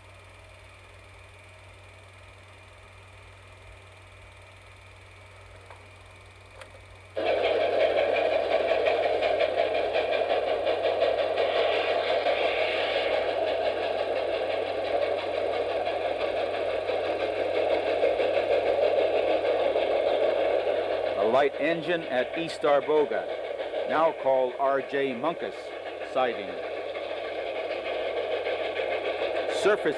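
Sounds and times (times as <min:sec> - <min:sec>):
engine running with fast pulsing: 0:00.0 - 0:29.9.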